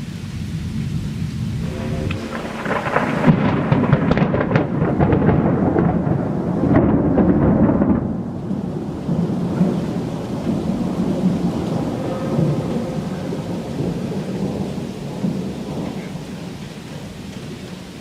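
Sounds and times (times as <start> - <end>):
thunder rumbling and crackling: 0.0 - 18.0.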